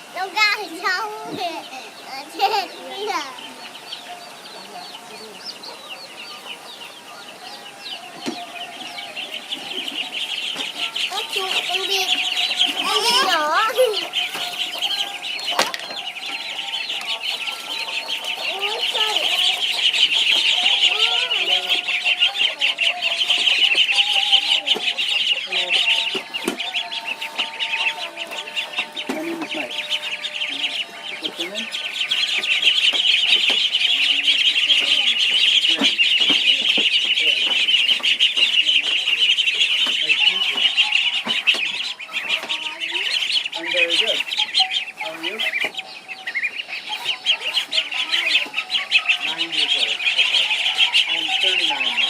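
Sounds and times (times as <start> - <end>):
chicks peeping: 0.0 - 52.0.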